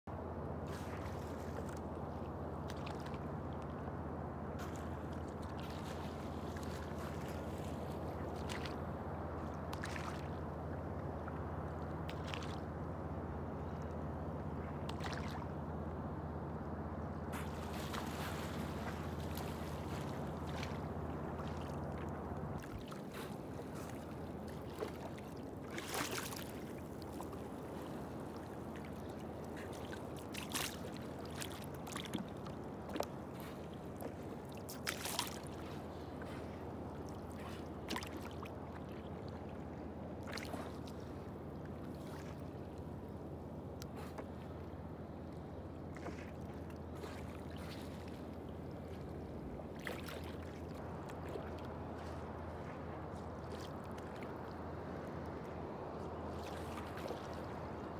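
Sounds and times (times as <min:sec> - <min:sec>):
water lapping against boat hull: 0:00.1 - 0:57.9
short splashes: 0:00.6 - 0:03.6, 0:04.6 - 0:12.8, 0:14.6 - 0:15.6, 0:17.3 - 0:42.9, 0:45.9 - 0:57.8.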